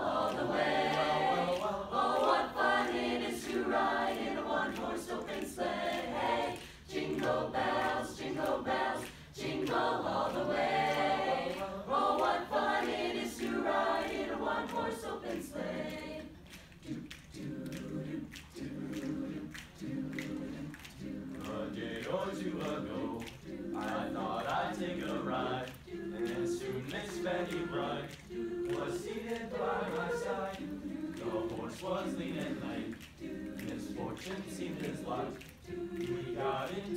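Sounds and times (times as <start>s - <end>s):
a cappella choir singing: 0.0s - 36.9s.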